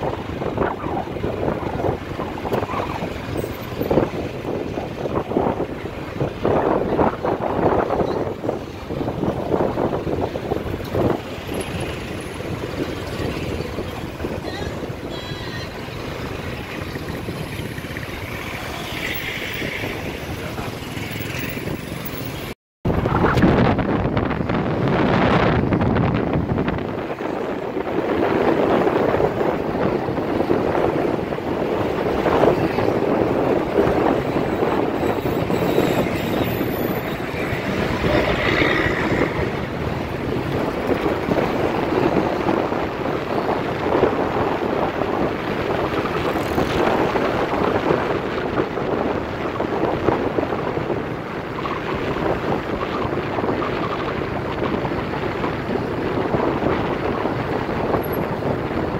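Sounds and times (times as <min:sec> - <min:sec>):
passing traffic: 0:00.0 - 0:58.9
wind buffeting microphone: 0:00.0 - 0:58.9.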